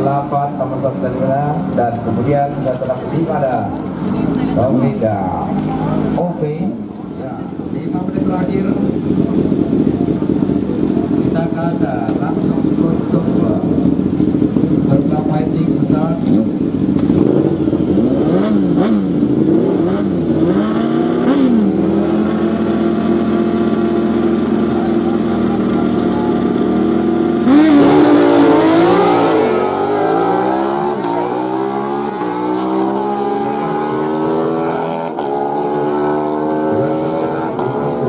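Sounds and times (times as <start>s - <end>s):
sport bike engine revving: 7.4s - 38.0s.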